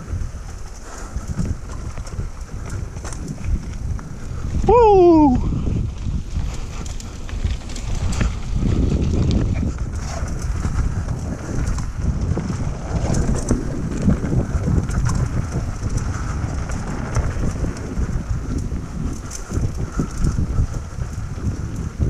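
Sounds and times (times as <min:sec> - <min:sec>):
bike rattling on dirt trail: 0:00.0 - 0:22.0
wind buffeting microphone: 0:00.0 - 0:22.0.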